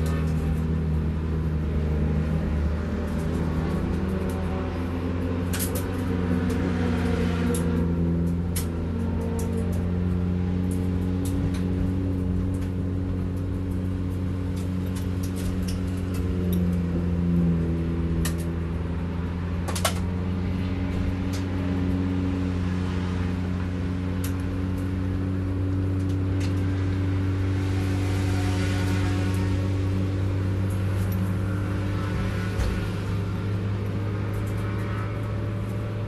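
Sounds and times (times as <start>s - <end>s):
car engine running at low revs: 0.0s - 36.0s.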